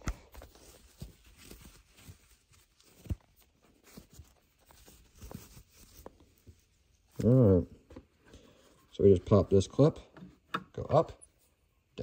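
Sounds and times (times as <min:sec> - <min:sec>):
gloved hands handling plastic: 0:00.0 - 0:12.0.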